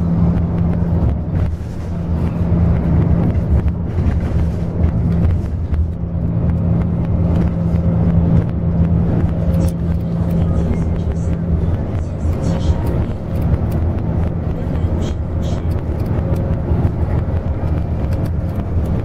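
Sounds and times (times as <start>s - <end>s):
bus engine droning: 0.0s - 19.0s
road rumble: 0.0s - 19.0s.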